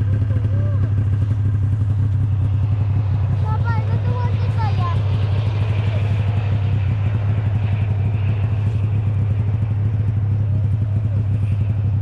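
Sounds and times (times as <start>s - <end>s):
snowmobile engine idling: 0.0s - 12.0s.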